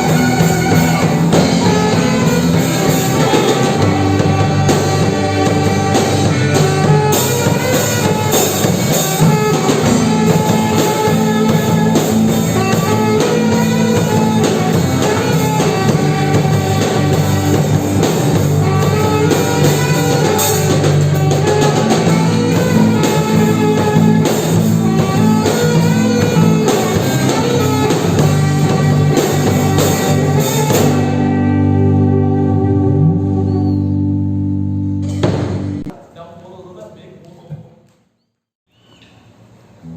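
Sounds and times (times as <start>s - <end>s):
band playing: 0.0s - 36.0s.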